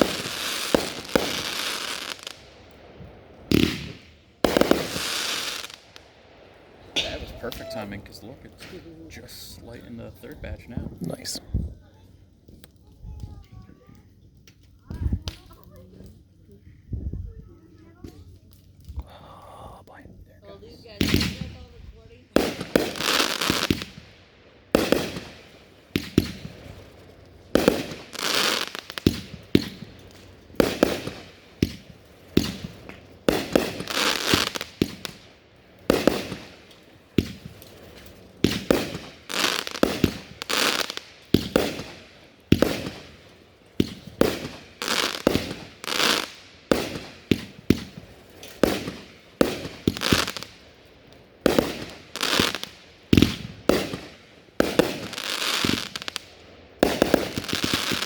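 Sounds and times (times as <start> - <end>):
fireworks bangs: 0.0 - 6.0, 6.7 - 11.4, 20.8 - 50.6, 51.4 - 58.0
fireworks crackling: 0.0 - 58.0.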